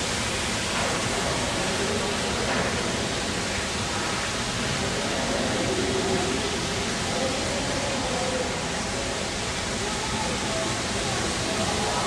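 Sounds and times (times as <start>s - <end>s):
fountain water rushing: 0.0s - 12.0s.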